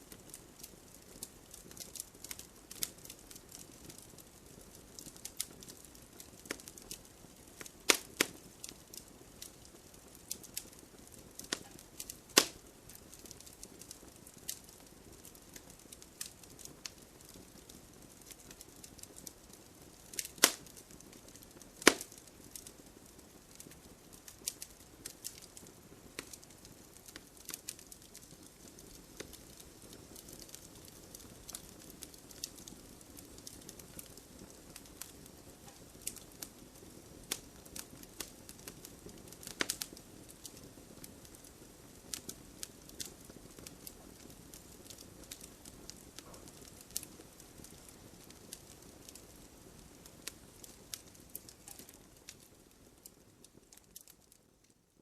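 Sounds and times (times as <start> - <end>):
bonfire crackling and popping: 0.0 - 55.0
faint hiss: 0.0 - 55.0.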